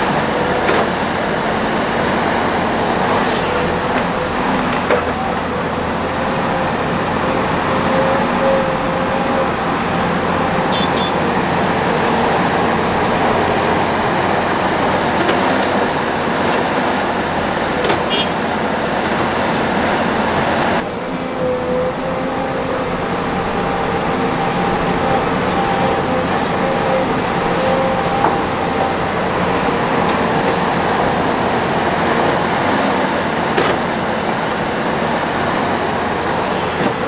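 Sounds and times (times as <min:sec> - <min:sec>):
heavy diesel machinery running: 0:00.0 - 0:37.0.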